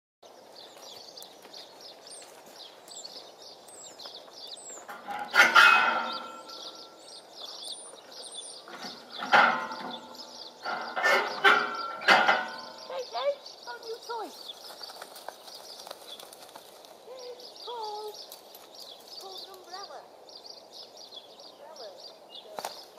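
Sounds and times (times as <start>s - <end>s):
small birds chirping: 0.2s - 22.9s.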